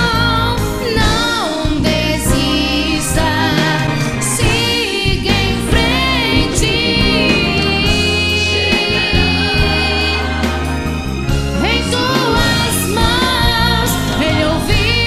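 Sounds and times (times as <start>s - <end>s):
gospel worship song with band: 0.0s - 15.0s.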